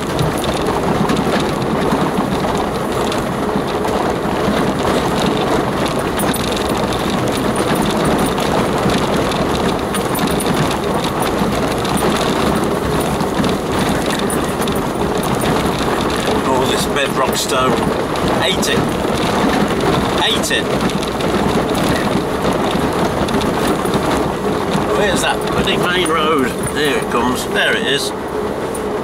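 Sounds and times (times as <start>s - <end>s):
tyres rumbling on loose stone: 0.0s - 28.2s
vehicle engine running: 0.0s - 29.0s.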